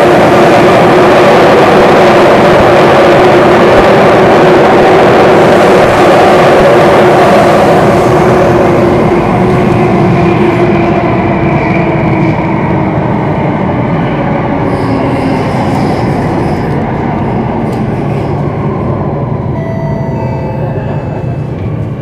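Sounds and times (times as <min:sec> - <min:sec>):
train rumbling through tunnel: 0:00.0 - 0:22.0.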